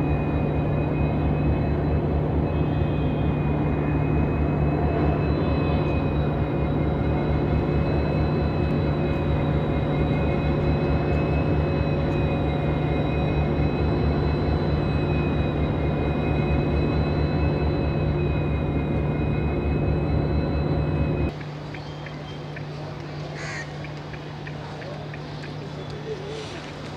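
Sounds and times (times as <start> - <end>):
locomotive machinery drone: 0.0 - 26.9.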